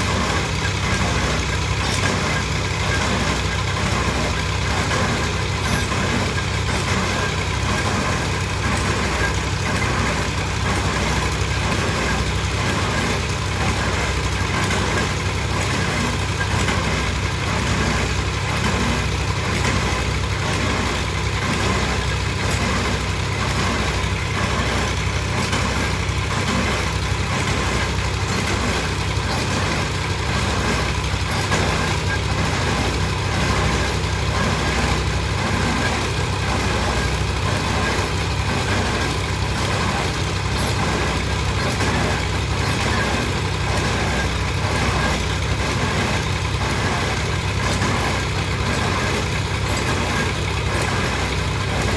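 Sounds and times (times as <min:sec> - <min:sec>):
heavy machinery engine running: 0:00.0 - 0:51.9.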